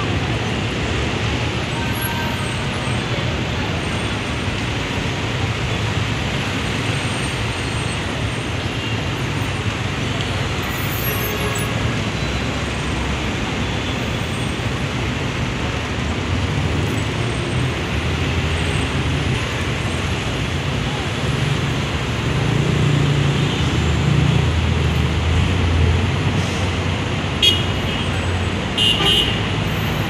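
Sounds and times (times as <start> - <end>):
traffic crawling and idling: 0.0 - 30.0.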